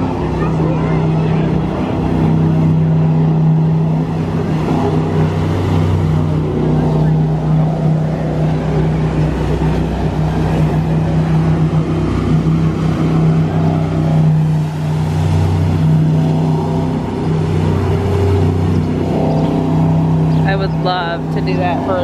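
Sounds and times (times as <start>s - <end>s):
speedboat engine drone: 0.0s - 22.0s.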